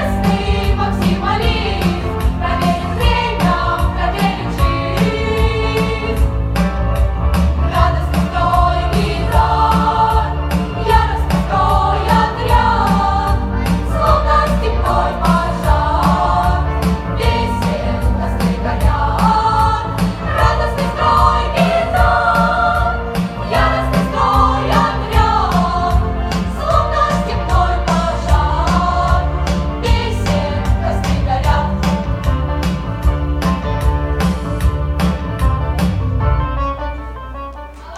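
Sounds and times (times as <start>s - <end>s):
children's choir singing: 0.0s - 6.4s, 7.6s - 32.3s
backing track with strong bass: 0.0s - 36.8s.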